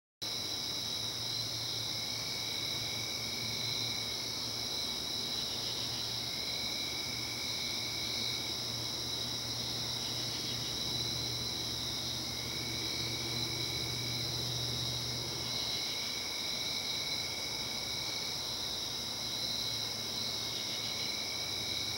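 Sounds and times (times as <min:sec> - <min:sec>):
crickets chirping: 0:00.2 - 0:21.9.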